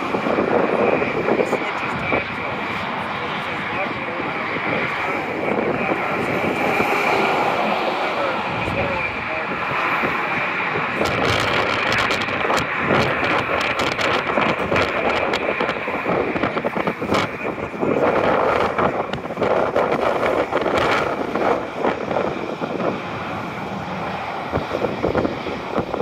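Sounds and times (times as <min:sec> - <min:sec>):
road traffic noise: 0:00.0 - 0:26.0
wind buffeting microphone: 0:00.0 - 0:26.0.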